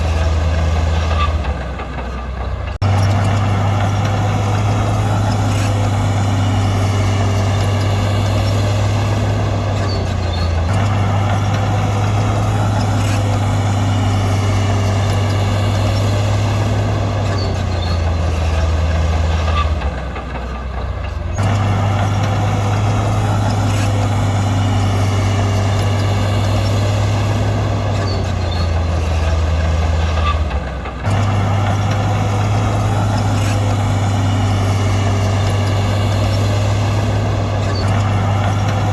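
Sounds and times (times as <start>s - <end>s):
diesel earthmoving machinery drone: 0.0s - 38.9s.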